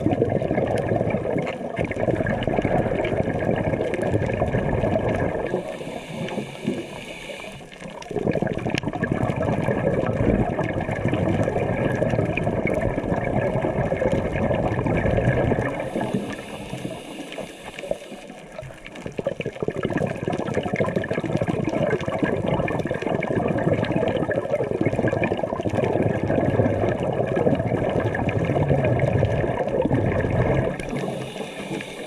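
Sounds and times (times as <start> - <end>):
underwater bubbling rush: 0.0 - 32.0.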